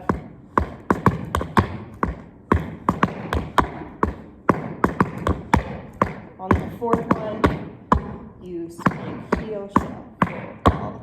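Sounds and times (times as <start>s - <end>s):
tap shoes on hard floor: 0.0s - 11.0s.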